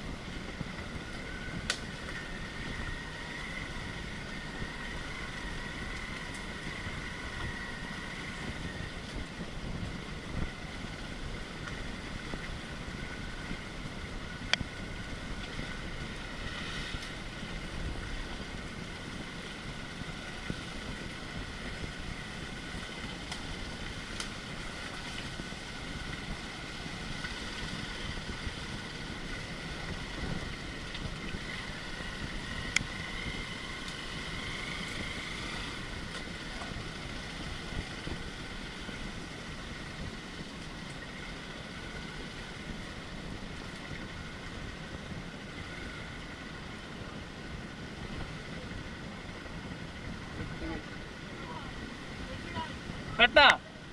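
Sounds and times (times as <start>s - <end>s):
motorcycle engine running: 0.0s - 53.9s
wind rumble on microphone: 0.0s - 53.9s.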